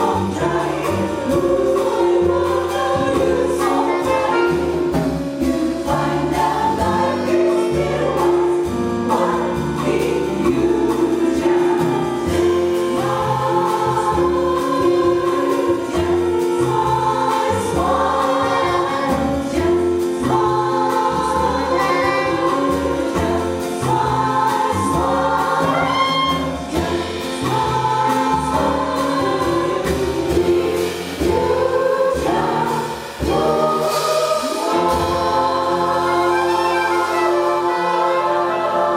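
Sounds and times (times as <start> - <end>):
chorus singing in harmony: 0.0 - 38.9
jazz band playing: 0.0 - 38.9.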